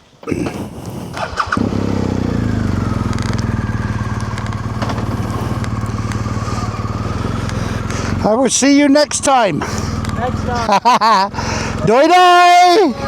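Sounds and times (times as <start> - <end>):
motorcycle engine starting and idling: 0.3 - 13.0.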